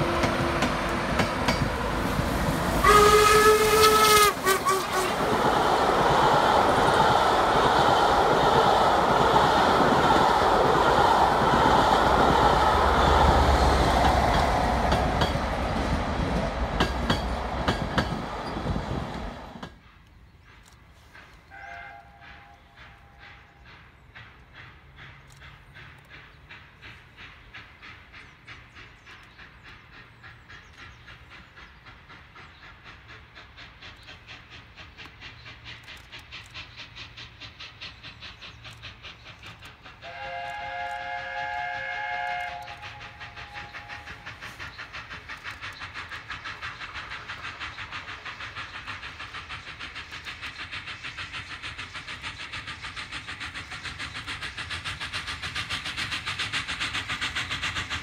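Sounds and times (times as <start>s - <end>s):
steam locomotive exhaust beat: 0.0s - 58.0s.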